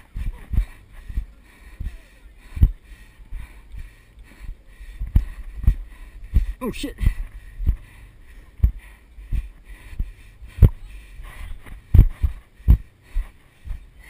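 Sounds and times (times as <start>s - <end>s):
running footfalls on sand: 0.0s - 14.0s.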